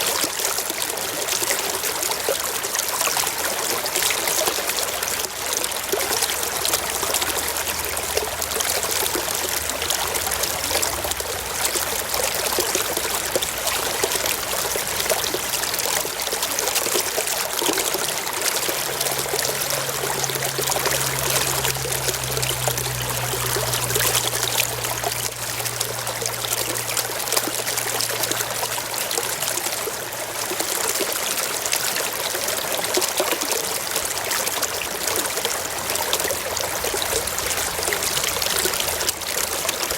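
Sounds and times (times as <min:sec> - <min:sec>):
brook water over rocks: 0:00.0 - 0:39.9.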